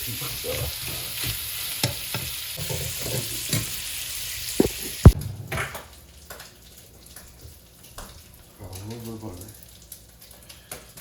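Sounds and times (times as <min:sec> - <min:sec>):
sausage sizzling in a frying pan: 0:00.0 - 0:11.0.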